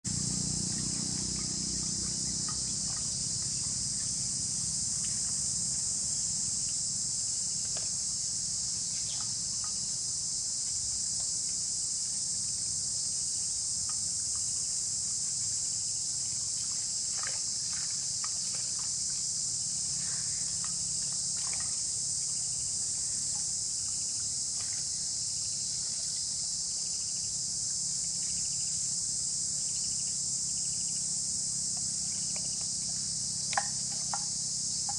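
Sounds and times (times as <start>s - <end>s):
insect chorus shrilling: 0.1s - 34.9s.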